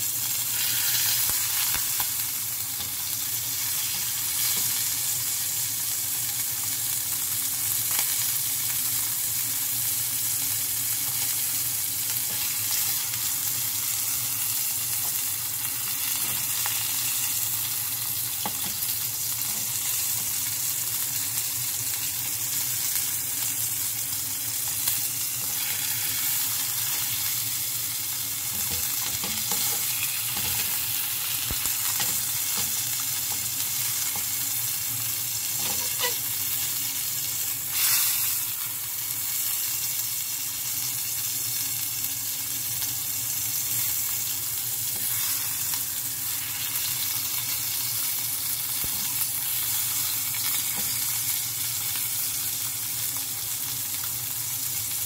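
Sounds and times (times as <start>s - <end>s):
beef sizzling in a frying pan: 0.0s - 55.0s.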